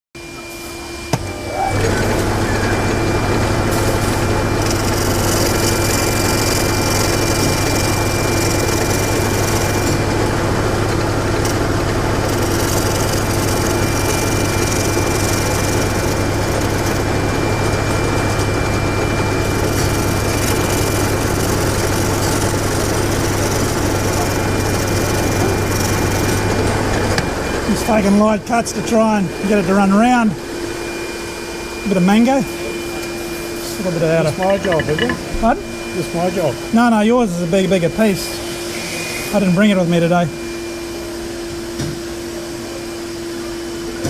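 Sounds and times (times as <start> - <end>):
wood lathe motor hum: 0.9 - 36.8.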